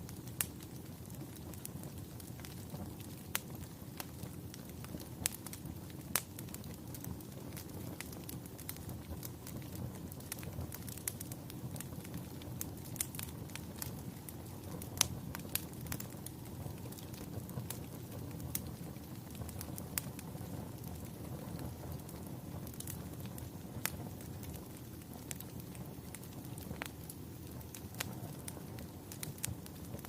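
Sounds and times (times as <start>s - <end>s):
fire crackling: 0.0s - 30.0s
sharp pops of fire: 0.0s - 30.0s.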